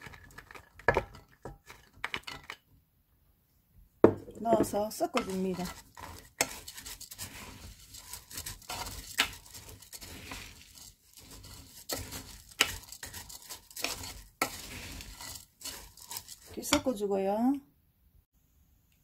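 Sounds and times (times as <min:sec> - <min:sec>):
spatula scraping grains in pot: 0:00.0 - 0:02.6, 0:04.4 - 0:17.3.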